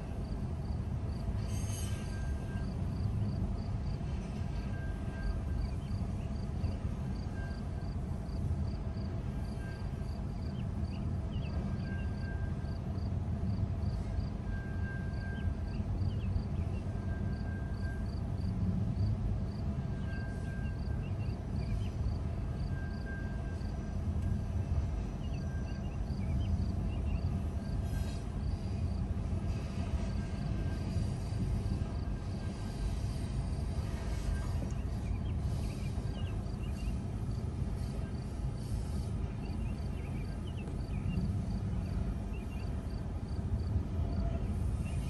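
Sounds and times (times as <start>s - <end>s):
freight train wheels rumbling on rail: 0.0s - 45.0s.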